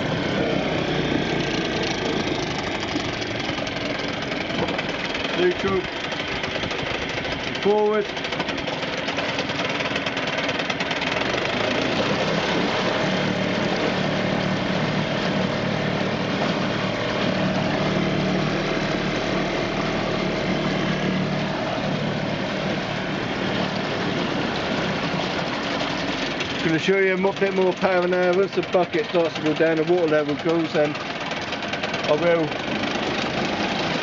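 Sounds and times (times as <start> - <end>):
outboard motor running: 0.0 - 34.0
propeller churning water: 0.0 - 34.0.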